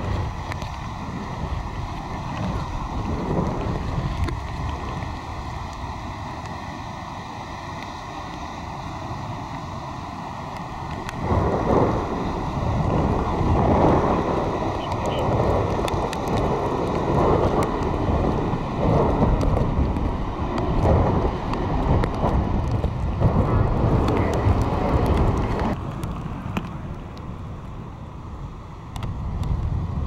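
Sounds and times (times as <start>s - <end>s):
breaking surf: 0.0s - 26.8s
wind buffeting microphone: 0.0s - 30.0s.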